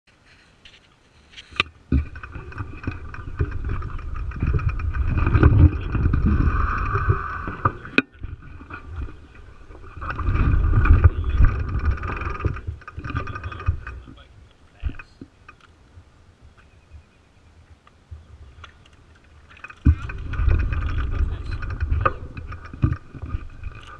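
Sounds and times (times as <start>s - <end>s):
bike rattling: 0.3s - 15.8s, 18.4s - 23.9s
wind and road rumble: 1.4s - 23.9s.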